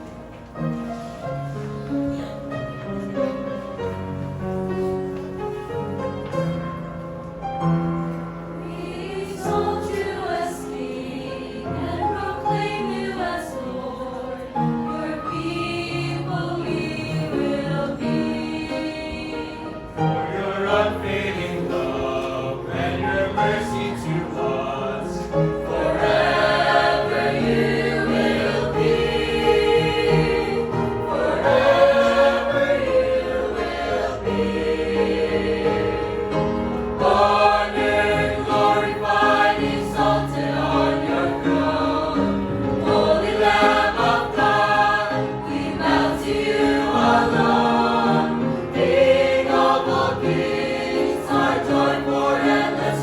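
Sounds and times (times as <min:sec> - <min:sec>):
church choir singing a hymn: 0:00.0 - 0:07.0, 0:07.8 - 0:53.0.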